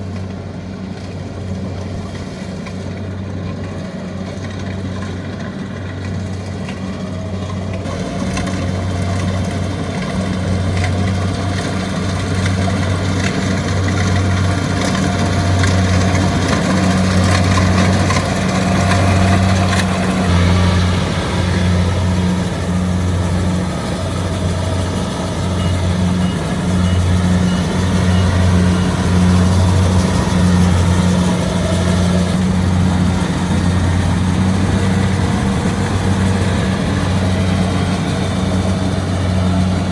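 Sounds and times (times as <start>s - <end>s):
combine harvester diesel drone: 0.0s - 39.9s.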